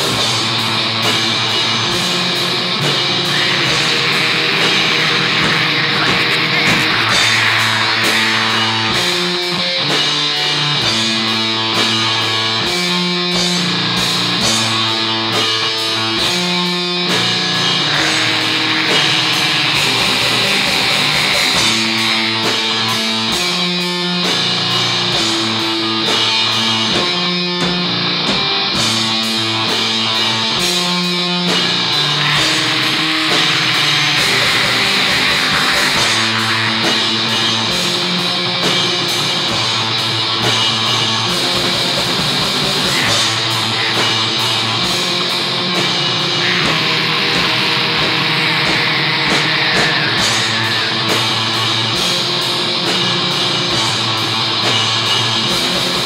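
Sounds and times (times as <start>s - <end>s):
distorted electric guitar chords: 0.0s - 56.0s
drumming: 0.0s - 56.0s.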